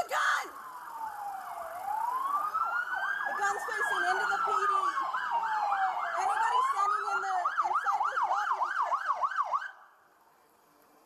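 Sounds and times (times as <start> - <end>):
siren rapid yelp: 0.0 - 9.8
siren slow wail: 0.0 - 10.0.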